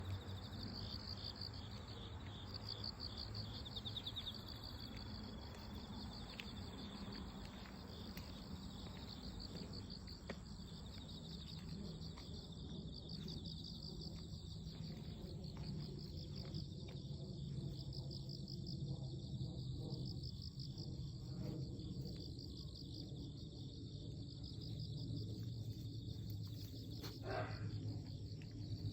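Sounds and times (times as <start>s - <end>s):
insects chirping: 0.0s - 28.9s.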